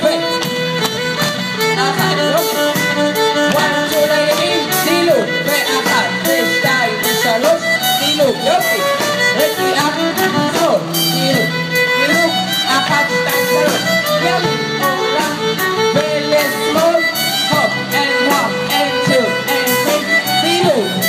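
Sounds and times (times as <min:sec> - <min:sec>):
fiddle dance tune: 0:00.0 - 0:21.0.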